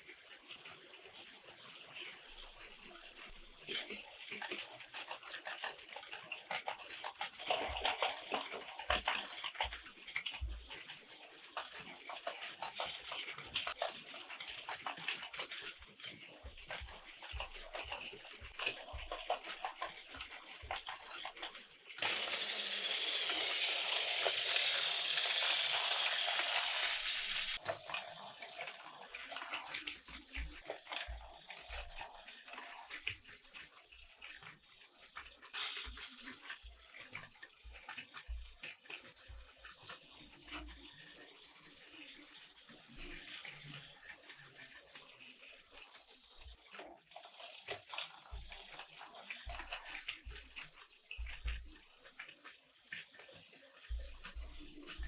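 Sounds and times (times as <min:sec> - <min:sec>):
toy trains rattling on track: 0:00.0 - 0:55.0.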